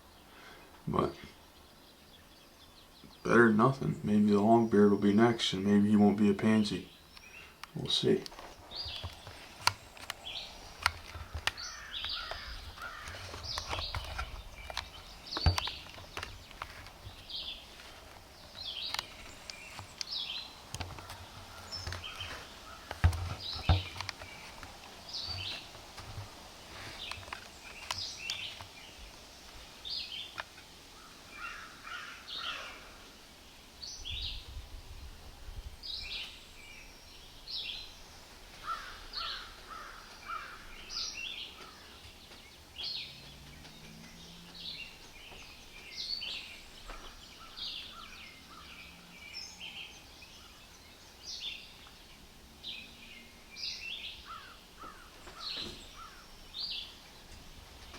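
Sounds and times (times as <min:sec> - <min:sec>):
low chattering bird calls: 0:00.0 - 0:57.9
songbirds calling: 0:00.0 - 0:57.9.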